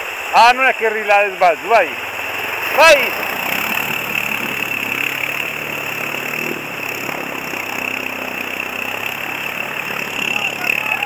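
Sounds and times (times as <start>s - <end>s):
quad bike engine running: 0.0s - 11.0s
river rushing: 0.0s - 11.0s.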